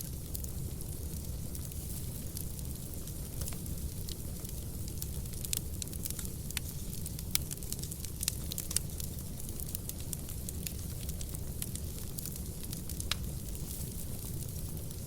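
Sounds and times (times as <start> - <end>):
fire low rumble: 0.0 - 15.0
logs crackling and popping: 0.0 - 15.0.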